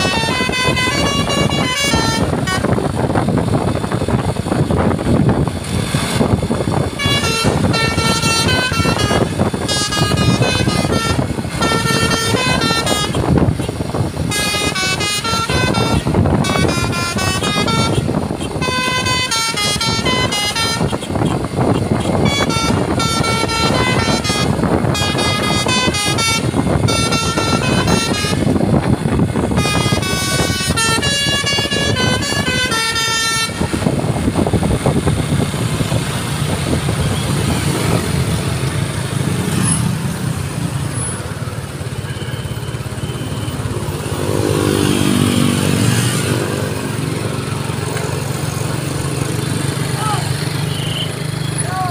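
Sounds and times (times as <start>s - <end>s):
multi-tone bus horn melody: 0.0s - 5.2s, 5.9s - 48.2s, 50.6s - 51.8s
vehicle engines running: 0.0s - 51.9s.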